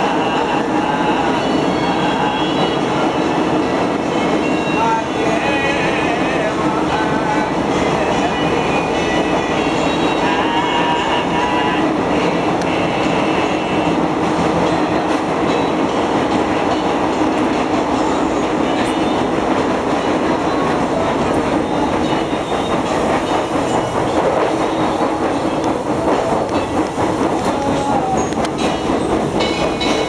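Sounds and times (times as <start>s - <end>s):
electric train running: 0.0s - 30.0s.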